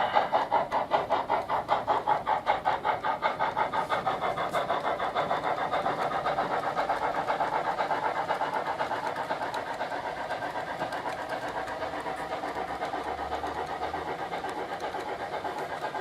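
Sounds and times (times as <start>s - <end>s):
rapid steam chuffs: 0.0s - 16.0s.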